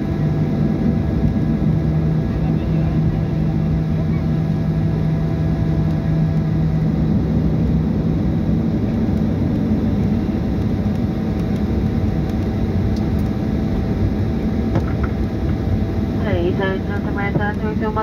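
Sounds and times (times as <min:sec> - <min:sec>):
jet engine cabin rumble: 0:00.0 - 0:18.0.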